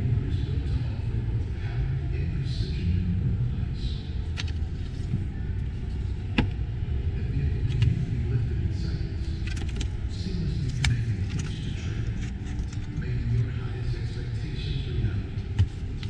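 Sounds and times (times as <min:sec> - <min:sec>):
exhibition hall rumble: 0:00.0 - 0:16.0
faint background voices: 0:00.0 - 0:16.0.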